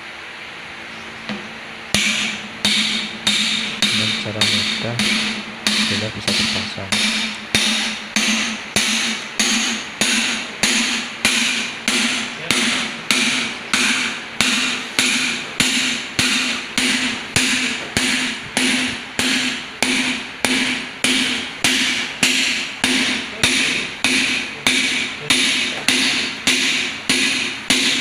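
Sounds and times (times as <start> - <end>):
hammer striking metal: 1.3 - 28.0.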